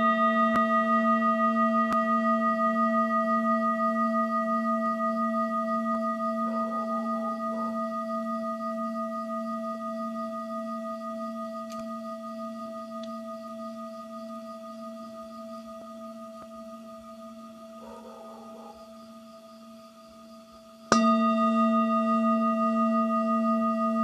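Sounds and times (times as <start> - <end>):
singing bowl ringing: 0.0 - 19.1, 20.9 - 24.0.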